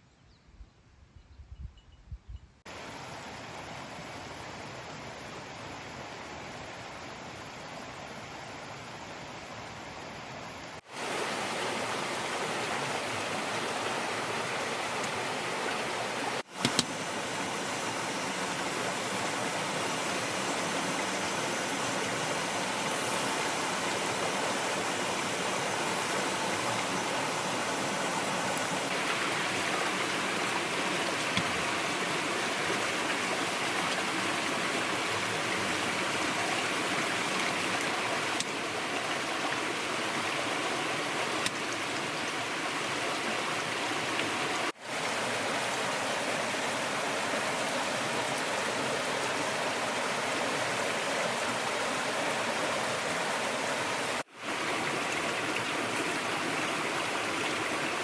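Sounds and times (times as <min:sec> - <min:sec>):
rushing water: 0:02.7 - 0:58.0.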